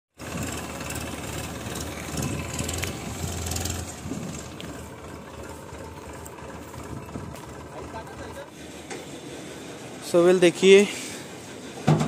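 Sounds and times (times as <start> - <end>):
diesel engine humming: 0.1 - 12.0
clatter of harvester machinery: 0.2 - 12.0.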